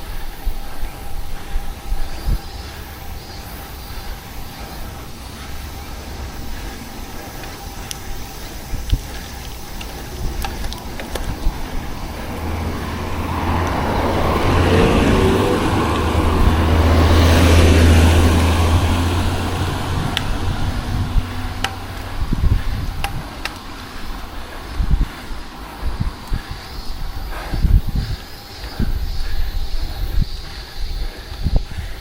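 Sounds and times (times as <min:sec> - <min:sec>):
car passing by: 0:00.3 - 0:30.4.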